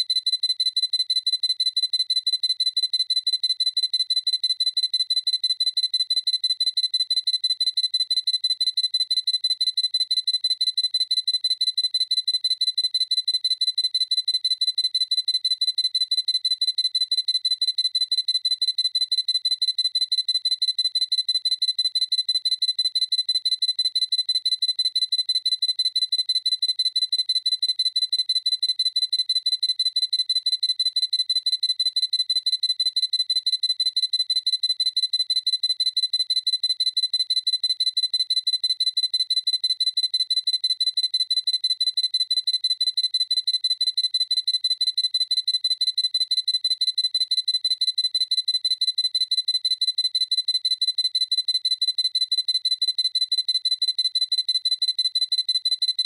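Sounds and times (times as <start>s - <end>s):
camera focus beeps: 0.0s - 56.0s.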